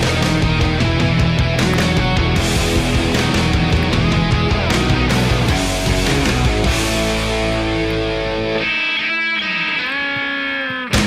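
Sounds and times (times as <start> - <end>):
heavy rock music: 0.0 - 11.0.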